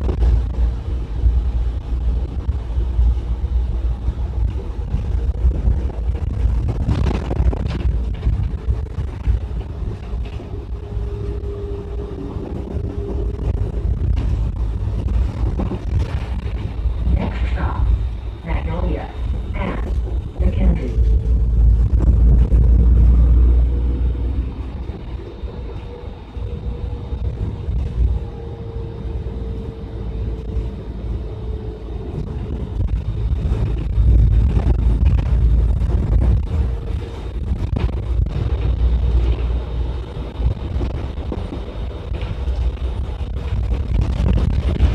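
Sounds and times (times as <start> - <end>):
bus engine and road rumble: 0.0 - 44.9
faint steady whine: 0.0 - 44.9.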